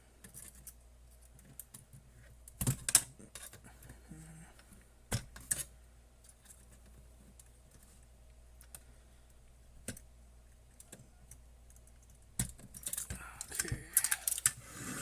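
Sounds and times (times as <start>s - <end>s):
small parts clicking and tapping: 0.2s - 4.0s, 4.6s - 14.6s.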